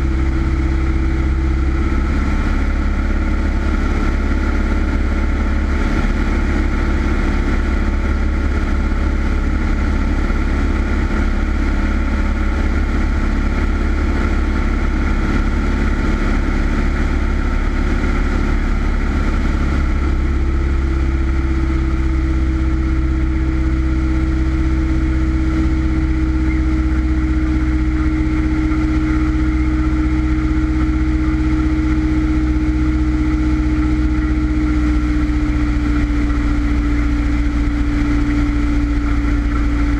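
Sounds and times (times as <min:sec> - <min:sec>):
low hum: 0:00.0 - 0:39.9
plane engine and propeller droning: 0:00.0 - 0:39.9.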